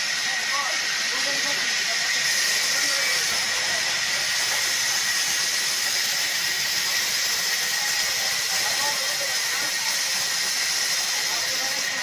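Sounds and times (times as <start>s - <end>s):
band saw cutting log: 1.2s - 12.0s.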